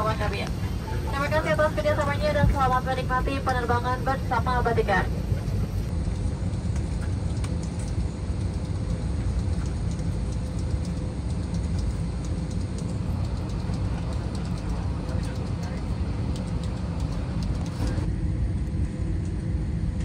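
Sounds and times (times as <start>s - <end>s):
cabin ventilation rumble and hum: 0.0s - 20.0s.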